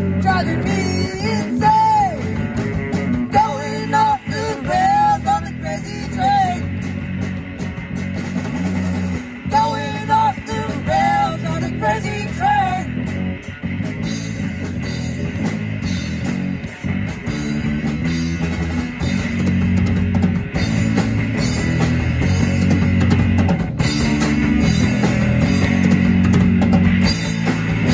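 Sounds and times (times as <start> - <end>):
bass guitar: 0.0 - 27.9
drum kit: 0.0 - 27.9
electric guitars: 0.0 - 27.9.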